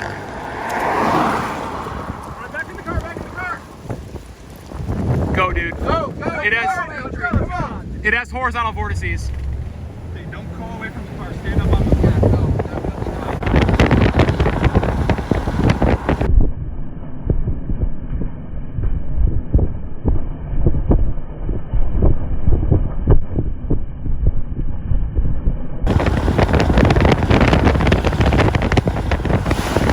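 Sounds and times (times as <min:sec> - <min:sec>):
strong wind buffeting microphone: 0:00.0 - 0:29.9.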